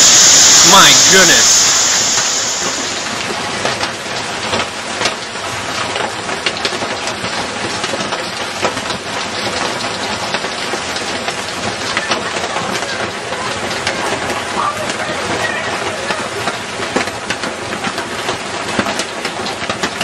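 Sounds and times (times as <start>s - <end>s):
rush of a downpour: 0.0s - 20.0s
hailstones clattering: 3.0s - 20.0s.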